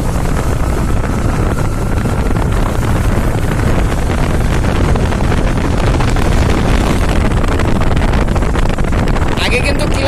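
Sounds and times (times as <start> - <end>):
motorcycle engine running: 0.0 - 10.0
wind buffeting microphone: 0.0 - 10.0.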